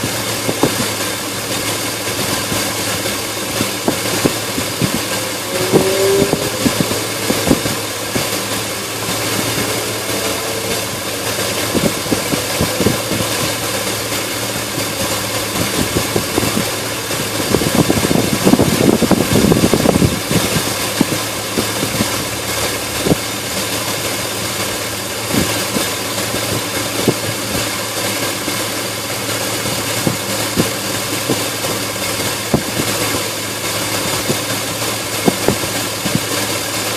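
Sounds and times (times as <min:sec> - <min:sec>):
engine idling roughly: 0:00.0 - 0:36.9.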